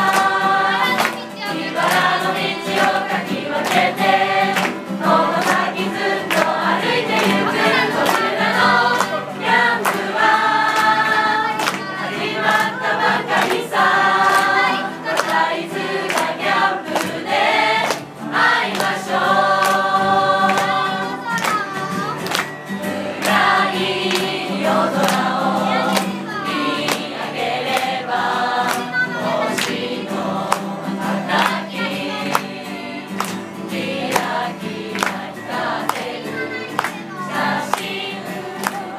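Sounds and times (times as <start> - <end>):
acoustic guitar: 0.0 - 38.9
group singing: 0.0 - 38.9.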